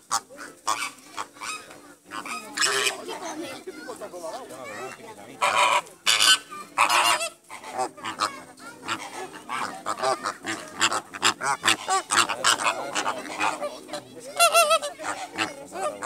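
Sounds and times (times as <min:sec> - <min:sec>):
flamingos honking: 0:00.0 - 0:03.2, 0:04.9 - 0:16.0.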